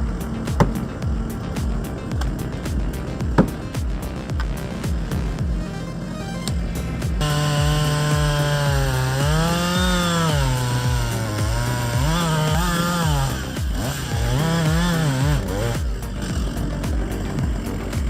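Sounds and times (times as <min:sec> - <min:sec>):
chainsaw revving: 0:00.0 - 0:18.0
music with thumping beat: 0:00.0 - 0:18.0.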